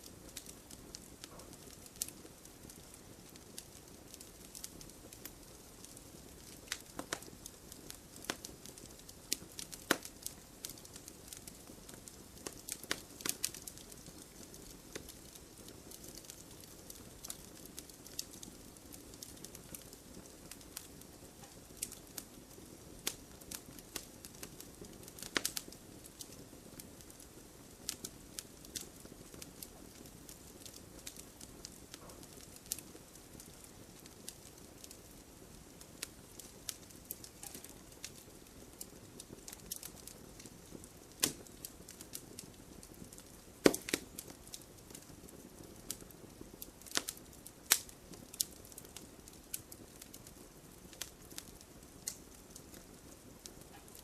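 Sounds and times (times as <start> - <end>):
campfire pops and snaps: 0.0 - 54.0.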